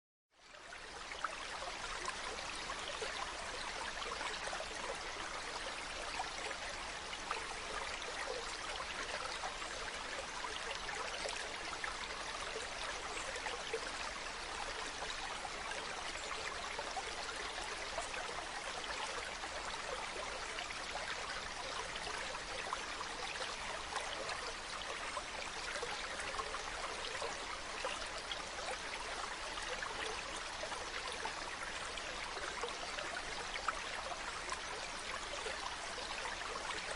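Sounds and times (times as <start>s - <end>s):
stream running over rocks: 0.4s - 36.9s.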